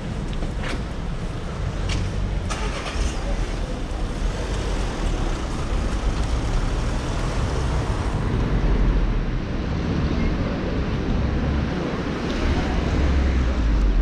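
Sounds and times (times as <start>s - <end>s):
traffic on wet streets: 0.0s - 14.0s.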